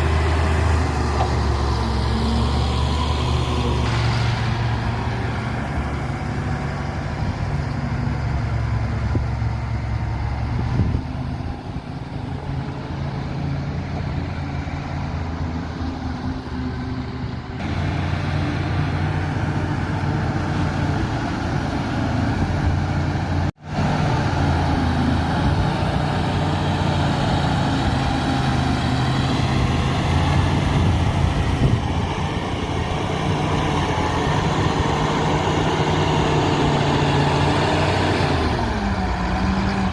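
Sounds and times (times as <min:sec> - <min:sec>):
heavy machine diesel engine running: 0:00.0 - 0:39.9.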